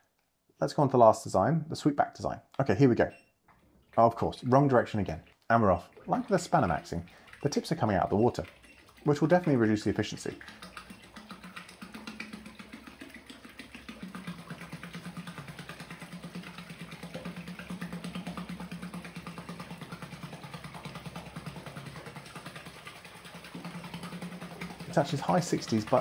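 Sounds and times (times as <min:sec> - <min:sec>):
propeller splashing water: 0:03.6 - 0:26.0.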